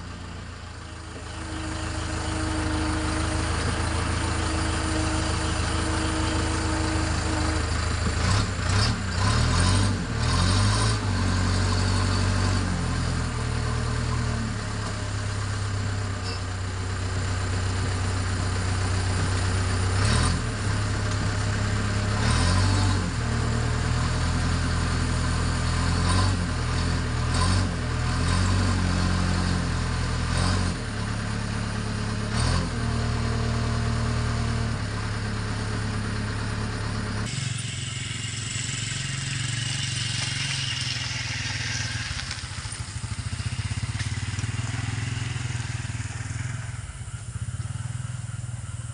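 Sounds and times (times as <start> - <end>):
diesel engine revving: 0.0 - 48.9.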